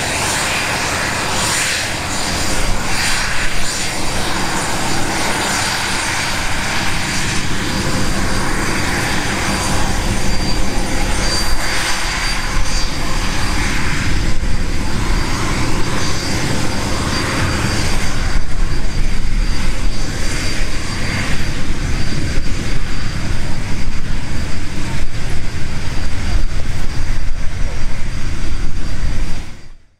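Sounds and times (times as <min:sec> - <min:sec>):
jet engine high whine: 0:00.0 - 0:29.9
rushing jet noise: 0:00.0 - 0:29.9.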